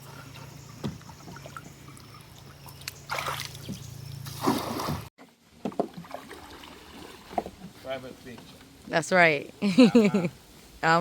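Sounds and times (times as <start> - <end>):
water splashing and sloshing: 0.0 - 8.8.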